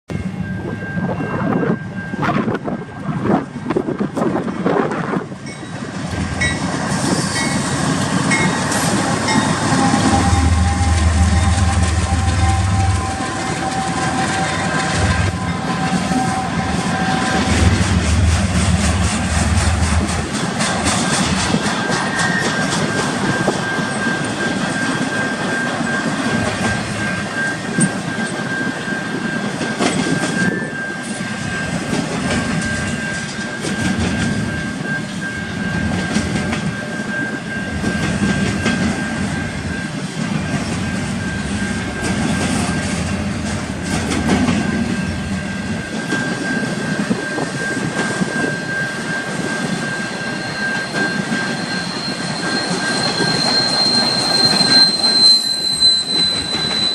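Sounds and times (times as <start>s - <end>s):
rumble of wheels on rail: 0.1s - 56.9s
high-pitched wheel squeal: 5.5s - 43.3s, 44.6s - 56.9s.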